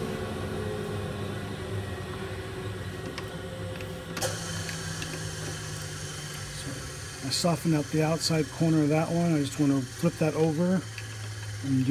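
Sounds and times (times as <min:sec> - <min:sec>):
machine hum: 0:00.0 - 0:11.9.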